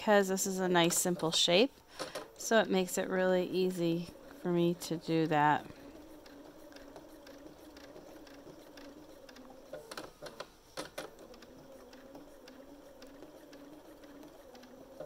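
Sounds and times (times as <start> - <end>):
sewing machine stitching: 0.6 - 15.0.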